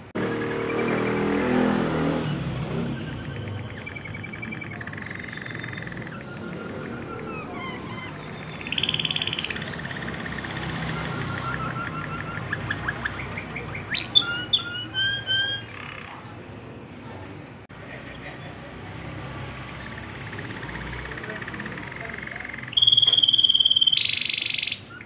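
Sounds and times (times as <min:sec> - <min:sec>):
canary singing trills: 0:00.2 - 0:16.5, 0:19.2 - 0:25.0.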